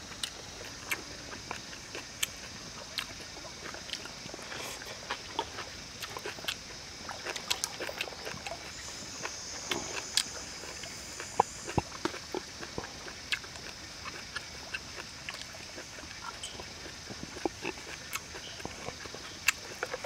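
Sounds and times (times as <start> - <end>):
steady high-pitched buzz: 0.0 - 20.0
person chewing with open mouth: 0.1 - 20.0.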